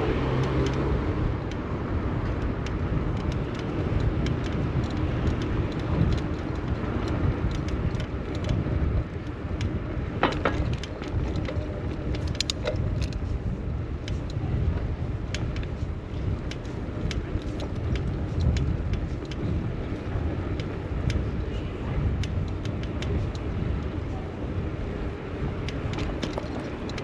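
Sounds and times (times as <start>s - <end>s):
low wind rumble on microphone: 0.0s - 27.0s
road traffic: 0.0s - 27.0s
light rattling clicks: 0.2s - 27.0s.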